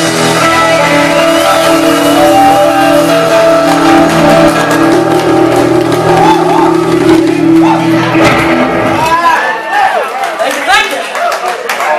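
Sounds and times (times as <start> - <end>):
distorted electric guitar: 0.0 - 9.6
keyboard and bass notes: 0.0 - 9.9.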